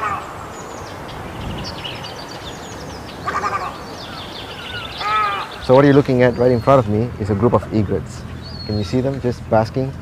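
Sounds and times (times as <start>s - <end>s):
harsh rasping bird call: 0.0s - 1.2s, 2.0s - 9.1s
small birds chirping: 0.0s - 10.0s.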